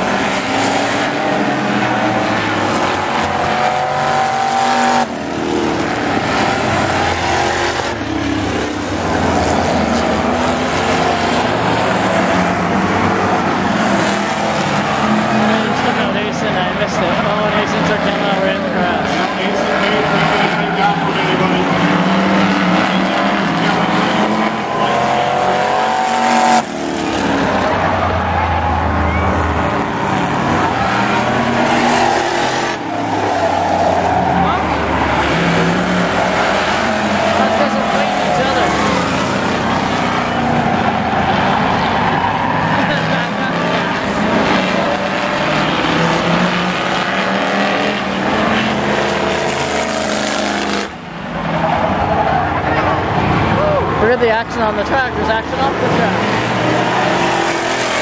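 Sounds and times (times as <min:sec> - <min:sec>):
engine revving: 0:00.0 - 0:58.0
truck engines running hard: 0:00.0 - 0:58.0.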